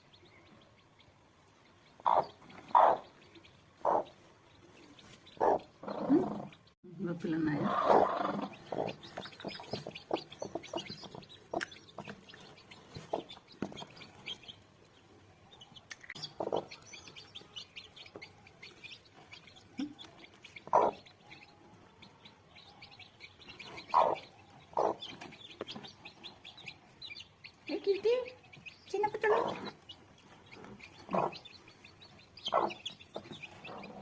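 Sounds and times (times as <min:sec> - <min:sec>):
chicks peeping: 0:00.0 - 0:34.0
hen clucking: 0:01.8 - 0:14.8, 0:15.5 - 0:34.0.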